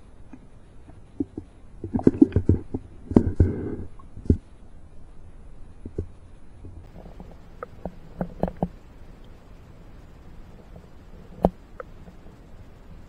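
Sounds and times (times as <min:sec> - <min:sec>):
gurgling water: 0:00.0 - 0:04.5, 0:05.8 - 0:13.0.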